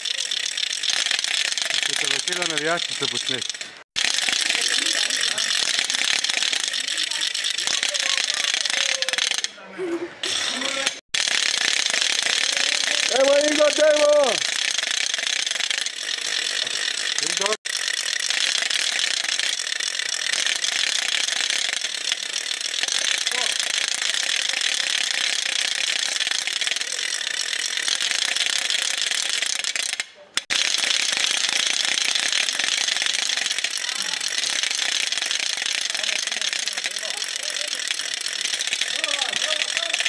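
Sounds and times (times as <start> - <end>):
wooden ratchet rattle clattering: 0.0 - 9.5, 10.2 - 40.0.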